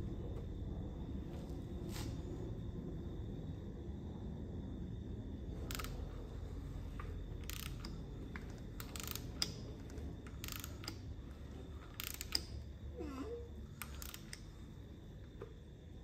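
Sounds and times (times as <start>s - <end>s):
electric drill low rumble: 0.0s - 12.9s, 13.6s - 15.2s.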